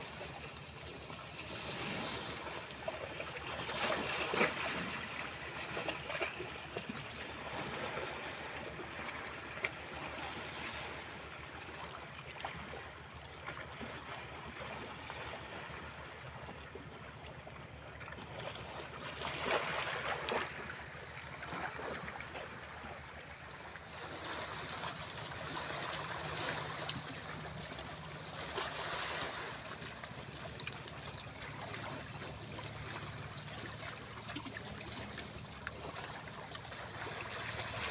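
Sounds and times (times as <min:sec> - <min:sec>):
small waves splashing on rocks: 0:00.0 - 0:16.1, 0:18.0 - 0:37.9.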